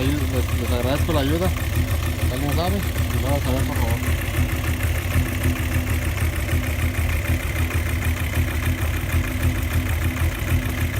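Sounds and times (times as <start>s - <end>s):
car engine idling: 0.0s - 10.9s
engine rattle: 0.0s - 10.9s.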